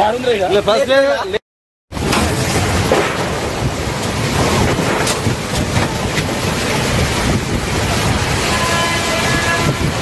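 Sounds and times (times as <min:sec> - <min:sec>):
heavy rain pouring: 0:01.9 - 0:10.0
wind buffeting microphone: 0:02.0 - 0:10.0.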